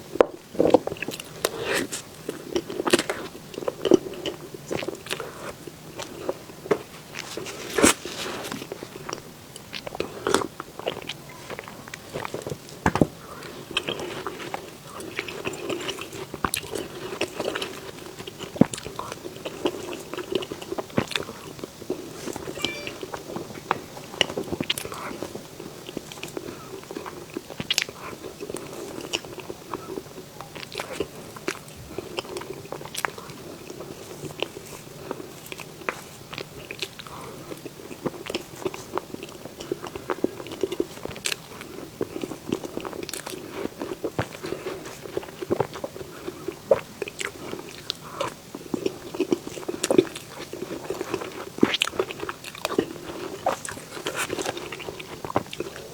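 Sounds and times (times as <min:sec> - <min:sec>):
chewing and biting: 0:00.6 - 0:22.5, 0:24.3 - 0:55.9.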